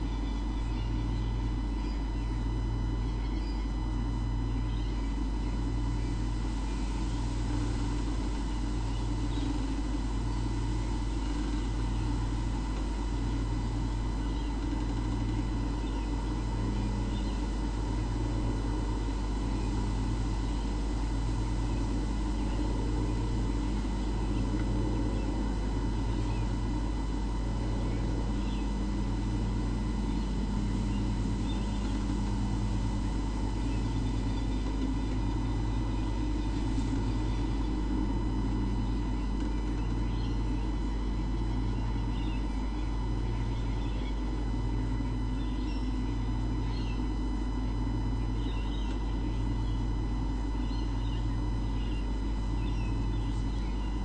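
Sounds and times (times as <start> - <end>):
faint high whines: 0.0 - 54.0
low pulsing hum: 0.0 - 54.0.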